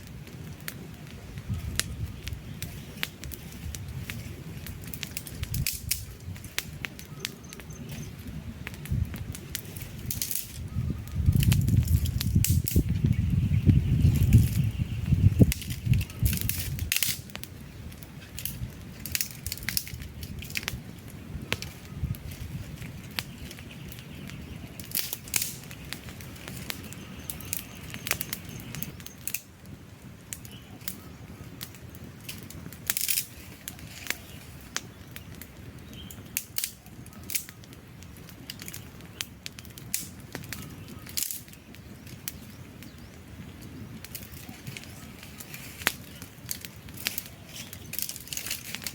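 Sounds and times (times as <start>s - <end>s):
campfire crackling and popping: 0.0s - 48.9s
fire hiss: 0.0s - 48.9s.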